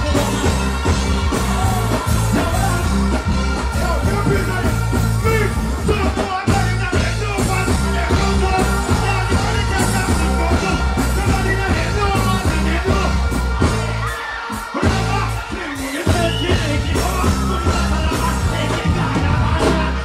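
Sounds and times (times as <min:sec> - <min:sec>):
dancehall bass riddim: 0:00.0 - 0:20.0
people shouting: 0:00.0 - 0:20.0
vocalist on microphone: 0:00.0 - 0:20.0.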